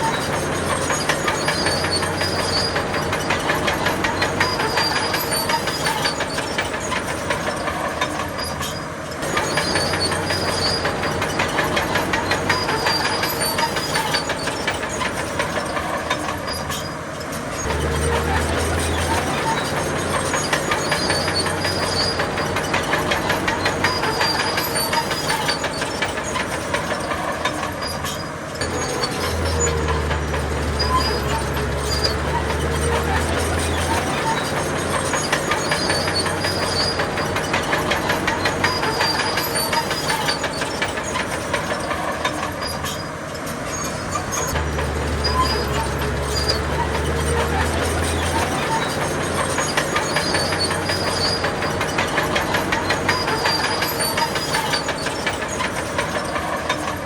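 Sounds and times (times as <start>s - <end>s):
bulldozer diesel engine running: 0.0s - 57.0s
steel tracks clanking: 0.0s - 57.0s.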